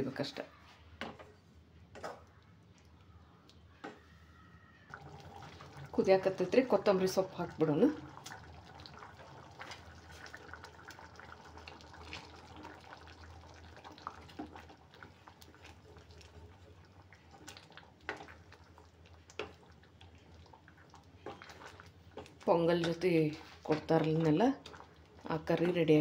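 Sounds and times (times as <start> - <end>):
curry bubbling and popping: 1.0 - 4.1, 4.9 - 26.0.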